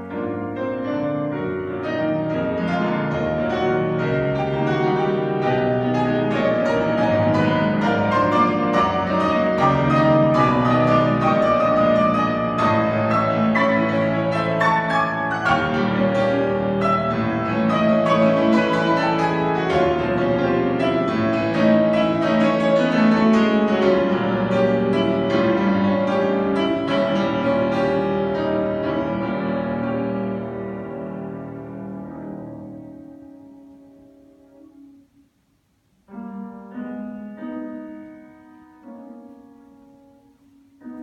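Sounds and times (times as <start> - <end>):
classical piano piece: 0.0 - 41.0.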